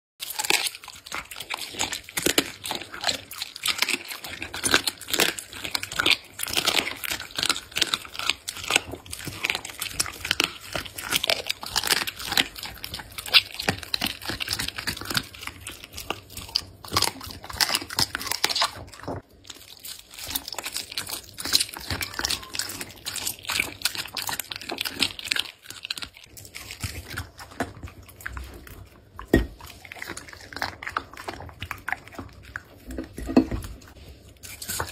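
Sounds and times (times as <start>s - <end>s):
dog chewing bones: 0.2s - 34.9s.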